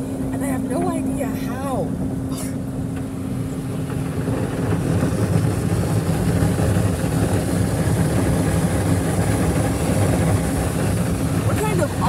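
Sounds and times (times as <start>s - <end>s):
car wash machinery rumbling: 0.0s - 12.0s.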